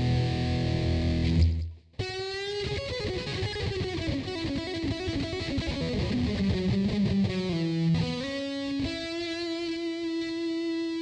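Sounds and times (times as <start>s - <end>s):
electric guitar chord: 0.0s - 11.0s
electric guitar single-note line: 0.0s - 11.0s.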